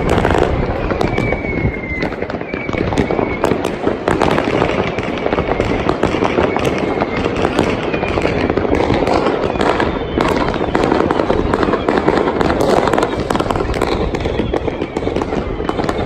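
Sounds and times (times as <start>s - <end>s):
faint high firework whistle: 0.0s - 16.0s
fireworks crackling and banging: 0.0s - 16.0s.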